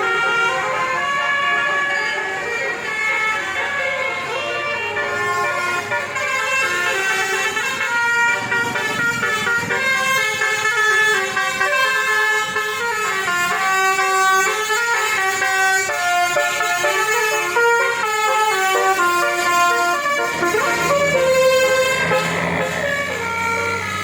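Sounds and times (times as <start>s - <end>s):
musical horn playing melody: 0.0s - 24.0s.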